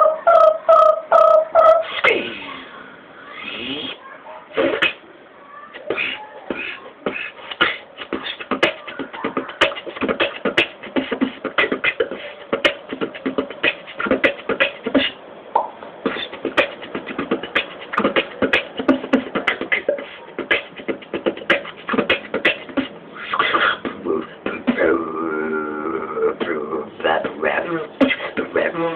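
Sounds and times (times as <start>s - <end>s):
person beatboxing: 3.3s - 4.0s, 4.6s - 5.0s, 5.8s - 15.2s, 16.0s - 28.9s.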